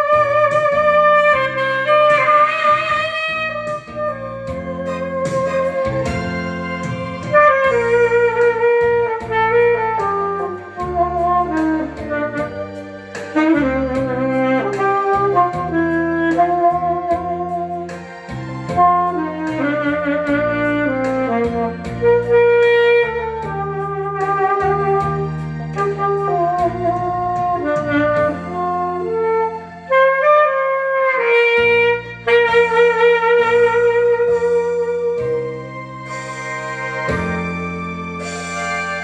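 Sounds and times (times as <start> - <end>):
backing track chords bass drums: 0.0 - 29.7, 31.3 - 39.0
saxophone melody with vibrato: 0.0 - 39.0.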